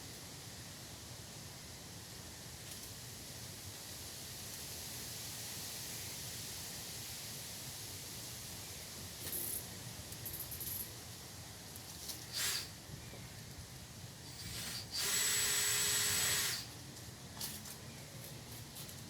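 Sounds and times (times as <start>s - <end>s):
faint hiss: 0.0s - 17.9s.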